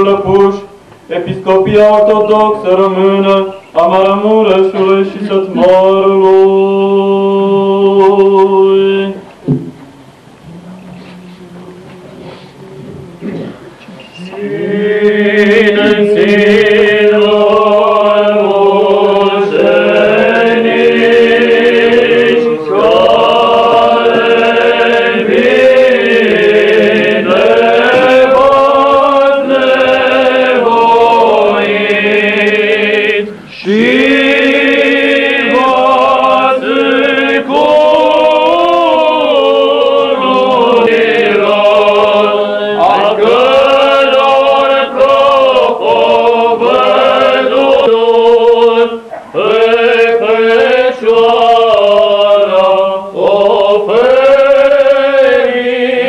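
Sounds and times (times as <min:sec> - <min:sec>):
choir chanting a hymn: 0:00.0 - 0:09.6, 0:10.4 - 0:56.0.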